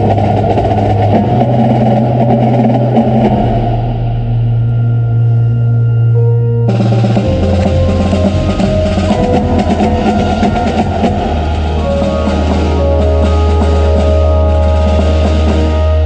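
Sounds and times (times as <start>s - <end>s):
drumline playing: 0.0s - 4.6s, 6.6s - 16.0s
held low tones and keyboard notes: 0.0s - 16.0s.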